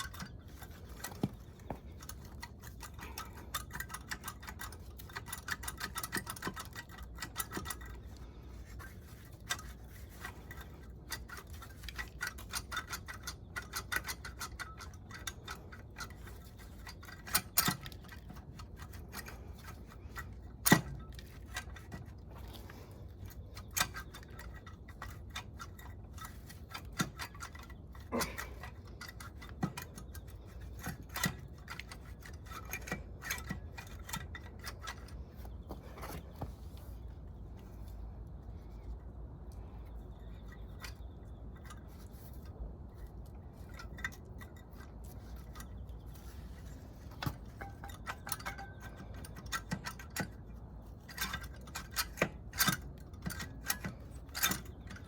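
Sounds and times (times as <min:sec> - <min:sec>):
metal parts clicking and clinking: 0:00.0 - 0:38.0, 0:38.7 - 0:55.0.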